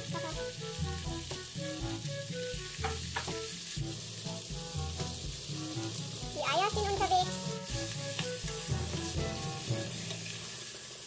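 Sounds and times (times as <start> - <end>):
soft background music: 0.0 - 10.7
pork sizzling in oil: 0.0 - 11.0.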